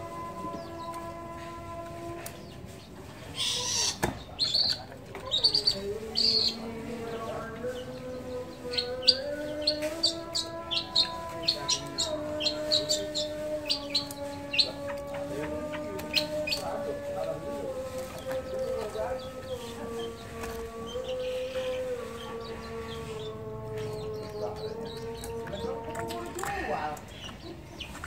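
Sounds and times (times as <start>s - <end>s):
bird chirping: 0.0s - 1.2s, 2.2s - 28.0s.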